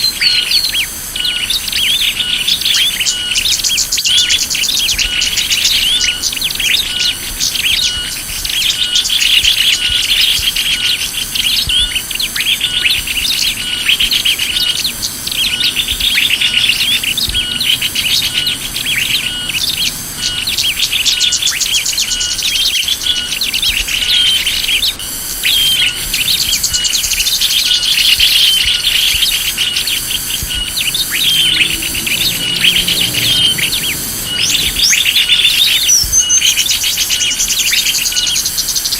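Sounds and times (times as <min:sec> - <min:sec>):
songbirds chirping and trilling: 0:00.0 - 0:38.9
regular high pulse: 0:00.2 - 0:38.5.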